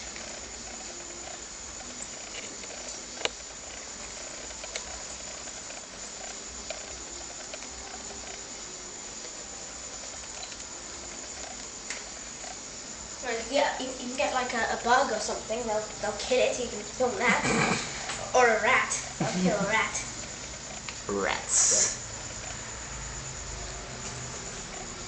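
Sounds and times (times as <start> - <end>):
steady background hiss: 0.0 - 25.0.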